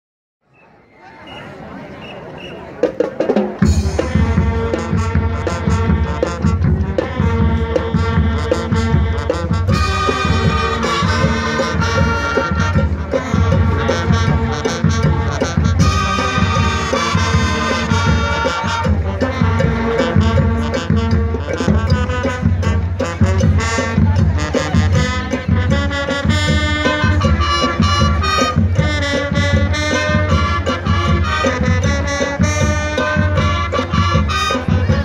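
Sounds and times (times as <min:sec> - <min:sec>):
marching band playing: 0:01.2 - 0:35.0
marching bass drums: 0:02.4 - 0:35.0.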